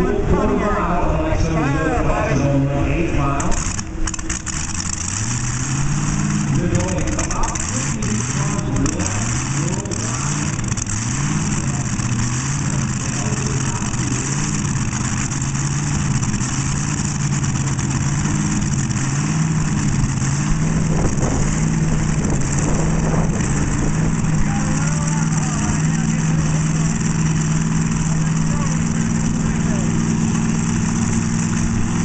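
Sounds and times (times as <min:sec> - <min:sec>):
drag car engine cackling: 0:00.0 - 0:32.0.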